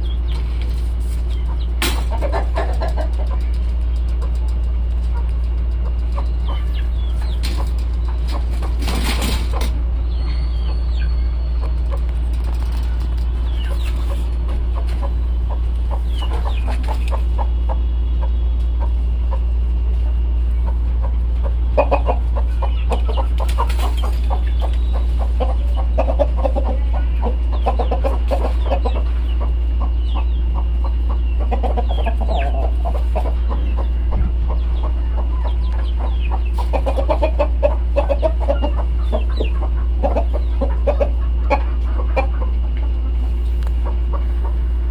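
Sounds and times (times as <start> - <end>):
chickens clucking: 0.0 - 44.9
steady low hum: 0.0 - 44.9.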